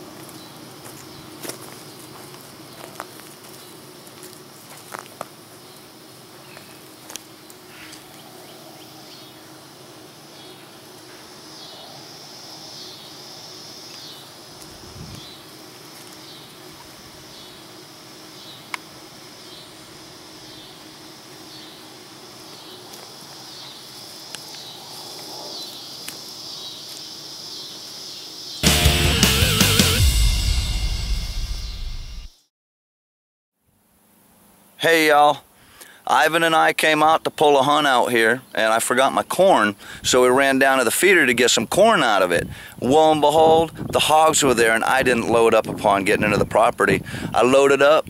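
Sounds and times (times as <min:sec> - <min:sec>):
faint constant hum: 0:00.0 - 0:28.6, 0:33.6 - 0:48.0
insects chirring: 0:00.0 - 0:32.4, 0:33.6 - 0:48.0.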